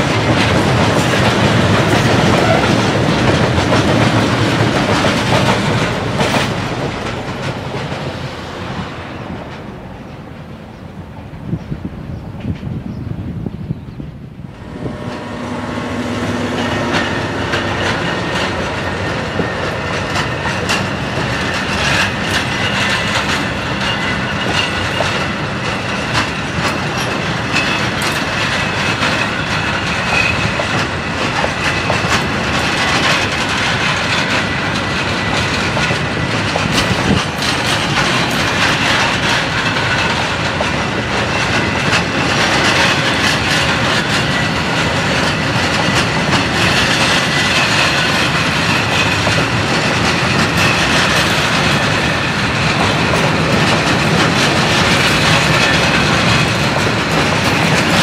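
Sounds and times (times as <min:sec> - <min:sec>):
wheels clicking over rail joints: 0:00.0 - 0:08.3, 0:14.9 - 0:58.0
freight train wheels rumbling: 0:00.0 - 0:58.0.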